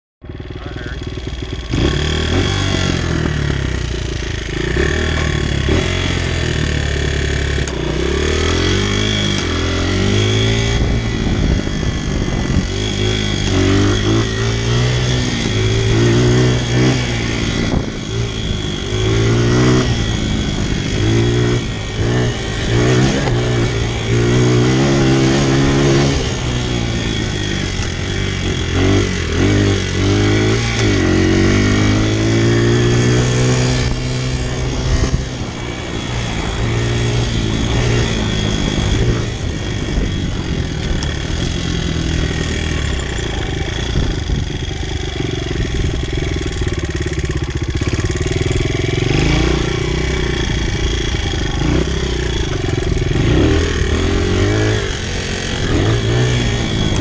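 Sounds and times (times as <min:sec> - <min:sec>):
dirt bike engine revving: 0:00.2 - 0:57.0.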